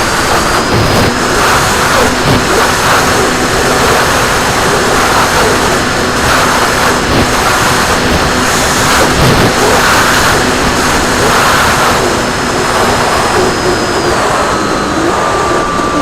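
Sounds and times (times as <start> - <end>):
model plane motor and propeller hum: 0.0 - 16.0
wind noise over microphone: 0.0 - 16.0.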